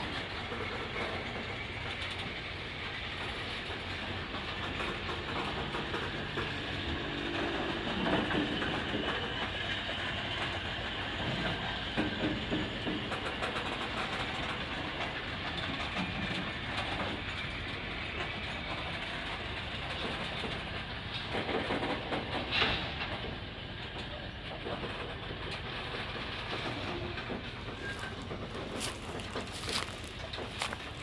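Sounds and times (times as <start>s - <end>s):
clickety-clack over rail joints: 0.0s - 31.0s
steel wheels rumbling: 0.0s - 31.0s.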